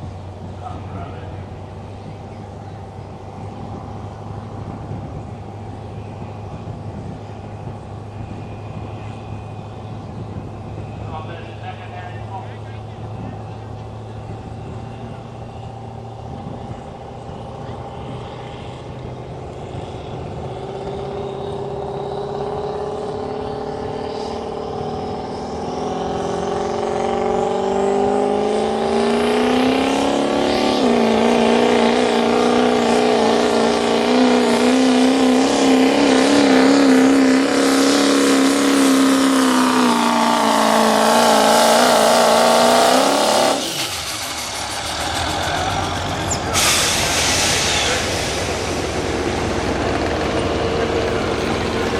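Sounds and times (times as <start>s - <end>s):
vehicle engine at full throttle: 0.0s - 51.9s.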